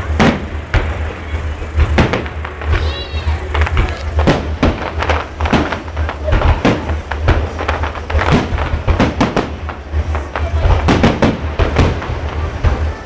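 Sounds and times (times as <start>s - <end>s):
fireworks bangs: 0.0s - 13.0s
low rumble: 0.0s - 13.0s.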